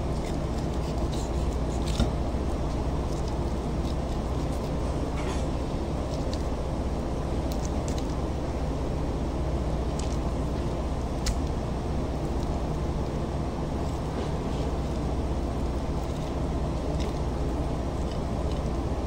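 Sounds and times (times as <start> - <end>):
kitchen machinery drone: 0.0 - 19.0.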